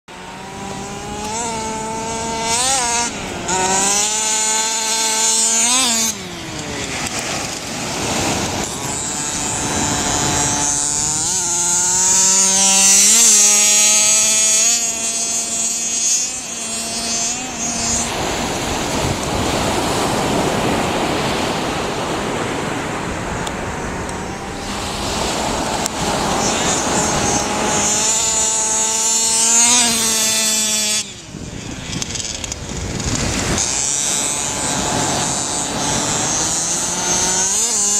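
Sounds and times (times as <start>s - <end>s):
steady rushing noise: 0.1s - 14.6s, 16.8s - 37.9s
rc car motor whining: 0.1s - 37.9s.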